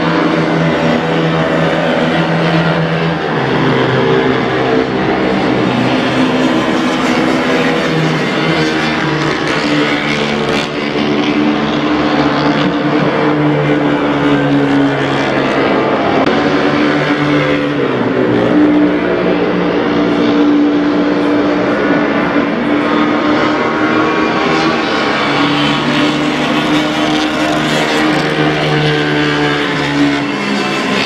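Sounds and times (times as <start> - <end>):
racing motorcycle engines: 0.0 - 31.0.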